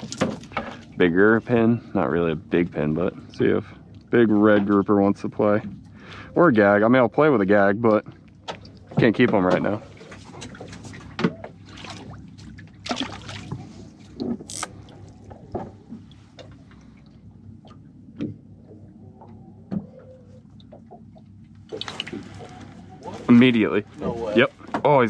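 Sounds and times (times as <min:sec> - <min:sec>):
low steady hum: 0:00.0 - 0:25.0
water lapping at hull: 0:00.0 - 0:25.0.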